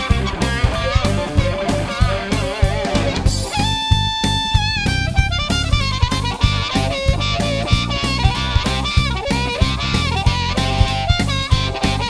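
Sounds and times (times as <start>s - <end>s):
drum kit beat: 0.0s - 12.0s
electric guitar: 0.0s - 12.0s.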